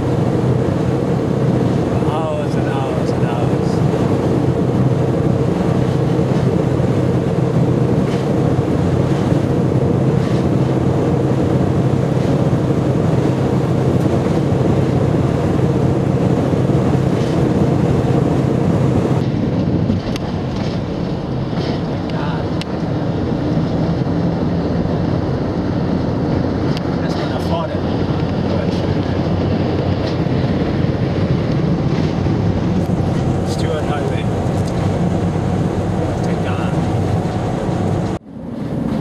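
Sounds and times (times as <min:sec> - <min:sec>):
car engine hum: 0:00.0 - 0:39.0
tyre and road rumble: 0:00.0 - 0:39.0.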